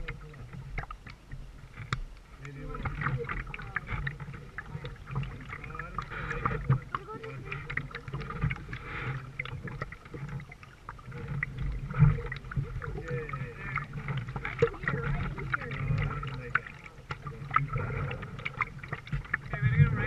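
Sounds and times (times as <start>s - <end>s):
paddle strokes in water: 0.0s - 20.0s
water splashing and gurgling: 0.0s - 20.0s.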